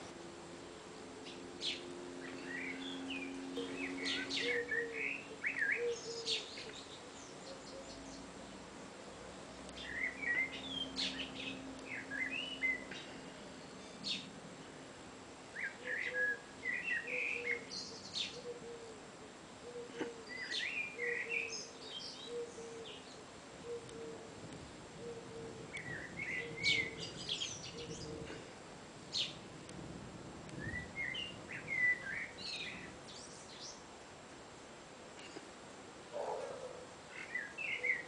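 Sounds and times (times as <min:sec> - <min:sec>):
songbird chirping and twittering: 0:00.7 - 0:28.5, 0:29.1 - 0:29.8, 0:30.4 - 0:34.0, 0:36.2 - 0:38.0.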